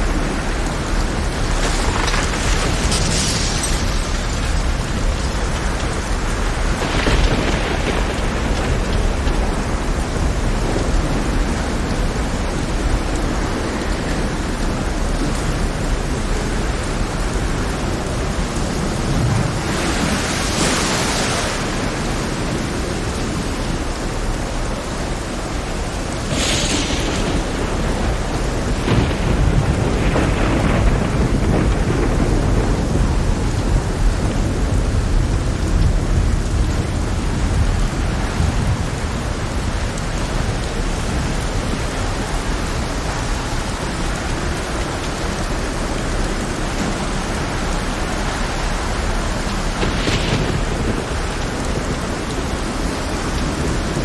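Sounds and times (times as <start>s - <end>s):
heavy rain pouring: 0.0s - 54.0s
low thunder rumble: 0.0s - 54.0s.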